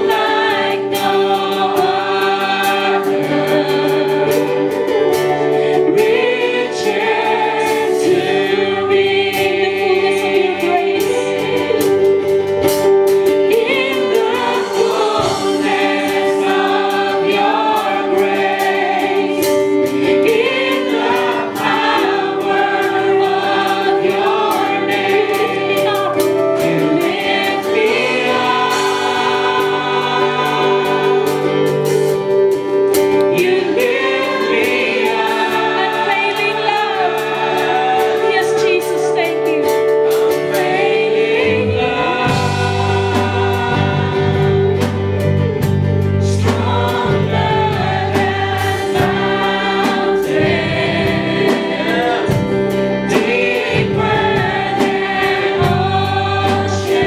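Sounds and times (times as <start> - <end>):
bass and drums: 0.0 - 57.0
voices singing together: 0.0 - 57.0
worship song played by band: 0.0 - 57.0.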